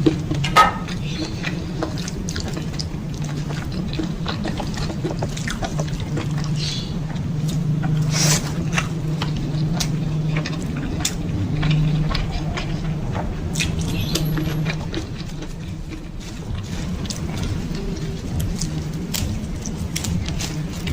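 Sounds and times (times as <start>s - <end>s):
close chewing with wet mouth smacks: 0.0s - 20.9s
steady low hum: 0.0s - 20.9s.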